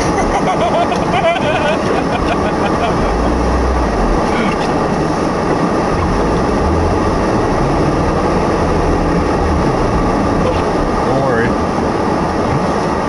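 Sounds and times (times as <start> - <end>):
low engine rumble: 0.0 - 13.0
rushing noise inside car: 0.0 - 13.0.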